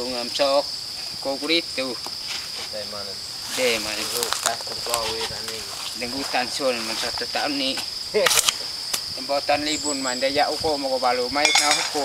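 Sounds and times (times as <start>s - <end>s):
people talking: 0.0s - 0.6s, 1.2s - 2.0s, 2.7s - 8.5s, 9.2s - 12.0s
high drone of insects: 0.0s - 12.0s.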